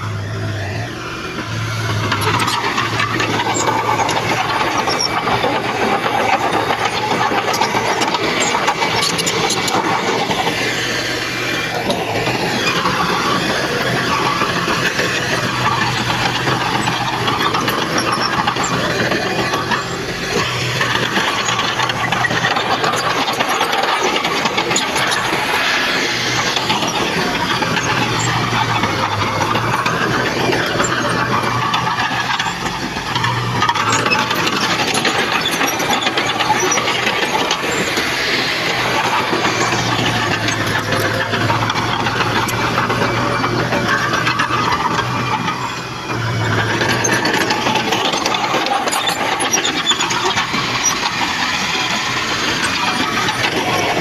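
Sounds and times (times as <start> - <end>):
diesel engine low hum: 0.0 - 54.0
high squeals: 0.0 - 54.0.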